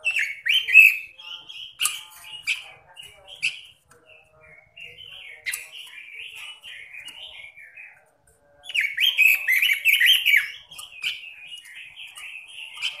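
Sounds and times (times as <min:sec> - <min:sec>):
bird singing warbling phrases: 0:00.0 - 0:13.0.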